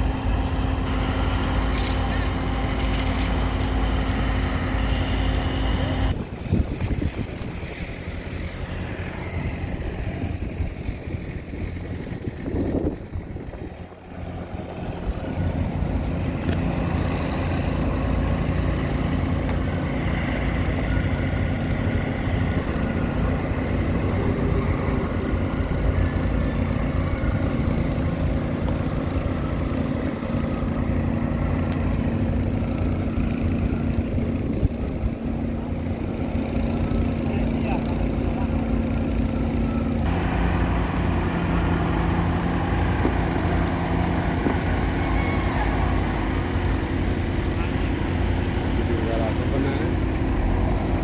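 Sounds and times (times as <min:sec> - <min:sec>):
wheel loader diesel engine: 0:00.0 - 0:51.0.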